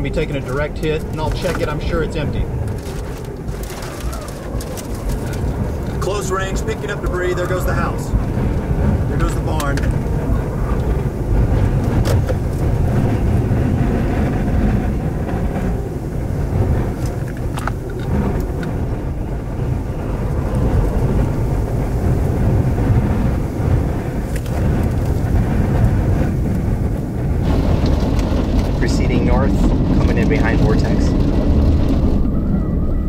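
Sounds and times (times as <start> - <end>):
strong wind buffeting microphone: 0.0 - 33.0.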